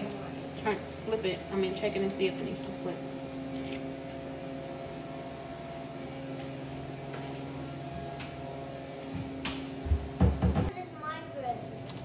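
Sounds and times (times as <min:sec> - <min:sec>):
appliance fan humming: 0:00.0 - 0:12.0.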